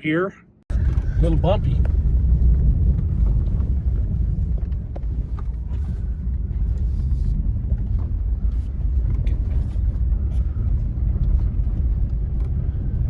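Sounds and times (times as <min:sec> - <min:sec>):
vehicle driving on dirt road: 0:00.7 - 0:13.0.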